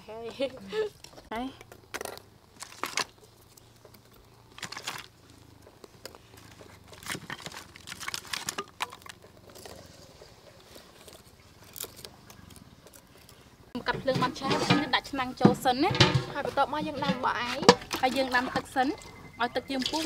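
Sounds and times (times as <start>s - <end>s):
wood sticks clicking and knocking: 0.2s - 20.0s.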